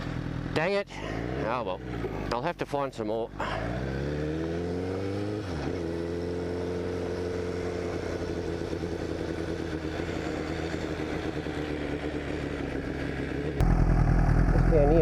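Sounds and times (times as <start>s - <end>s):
motorcycle engine running: 0.0s - 2.4s, 3.3s - 15.0s.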